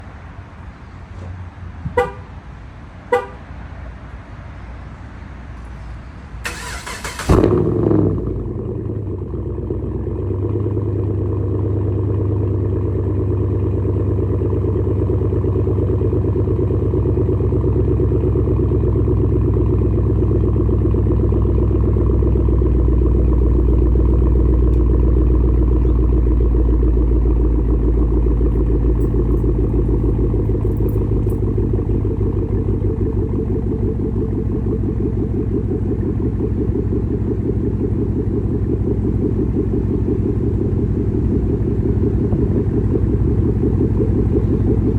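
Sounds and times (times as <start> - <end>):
car engine starting: 5.6 - 44.9
deep engine idle: 6.5 - 44.9.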